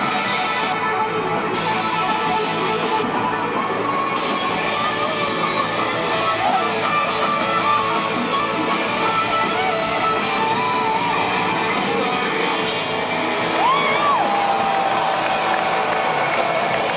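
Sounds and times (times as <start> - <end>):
electric guitar lead: 0.0 - 16.9
live rock band: 0.0 - 16.9.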